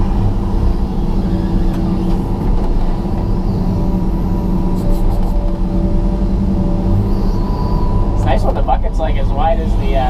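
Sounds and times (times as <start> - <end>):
excavator engine and hydraulics: 0.0 - 10.0.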